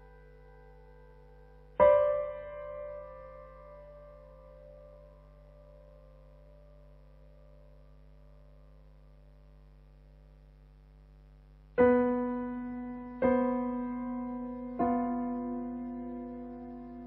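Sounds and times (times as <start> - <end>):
faint steady ringing tone: 0.0 - 17.0.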